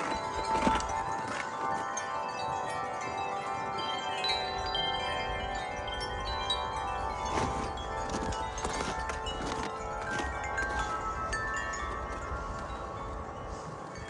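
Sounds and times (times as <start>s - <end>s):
low wind rumble: 0.0s - 14.0s
wind chimes ringing: 0.0s - 14.0s.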